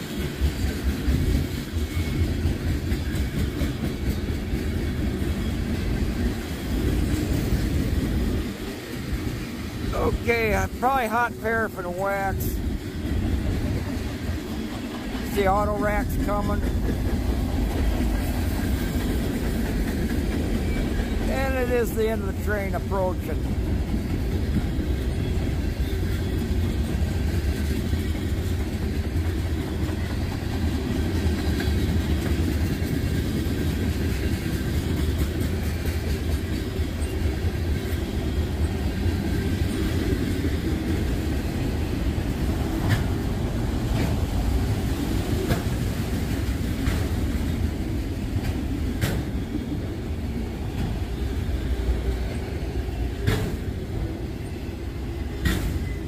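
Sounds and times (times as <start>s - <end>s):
freight train wheels rumbling: 0.0s - 56.0s
train wheels clicking: 0.0s - 56.0s.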